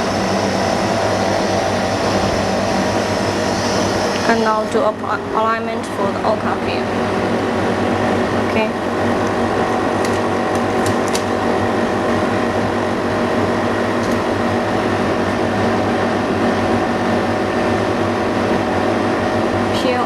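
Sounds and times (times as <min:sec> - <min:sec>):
motor or fan humming: 0:00.0 - 0:20.0.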